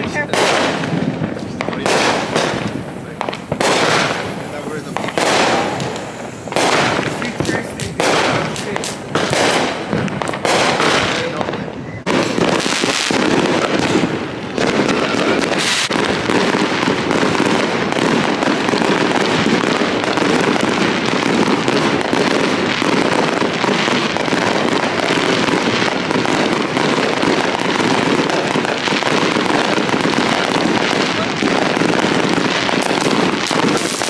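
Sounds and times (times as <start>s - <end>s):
fireworks crackling: 0.0s - 34.0s.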